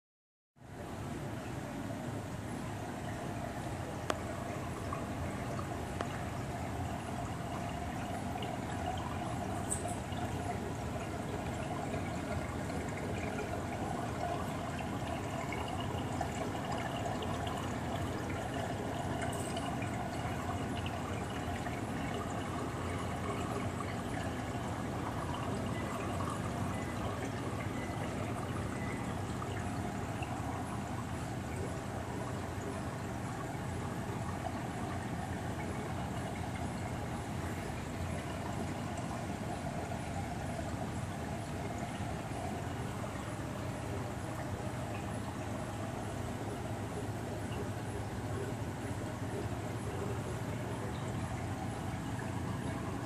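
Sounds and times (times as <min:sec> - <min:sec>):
water trickling and splashing: 0:00.7 - 0:53.0.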